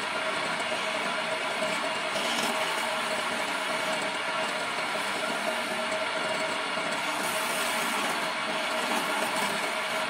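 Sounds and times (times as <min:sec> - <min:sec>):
chisel scraping spinning wood: 0:00.0 - 0:10.0
lathe motor humming: 0:00.0 - 0:10.0.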